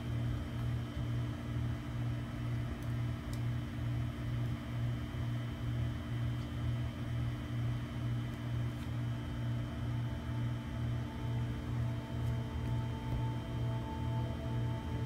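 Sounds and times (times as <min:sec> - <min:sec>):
heater fan hum with throb: 0:00.0 - 0:15.0.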